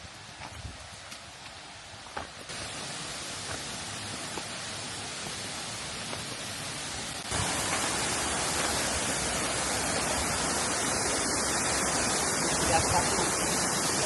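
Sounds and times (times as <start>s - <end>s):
waterfall rushing water: 1.6s - 14.0s.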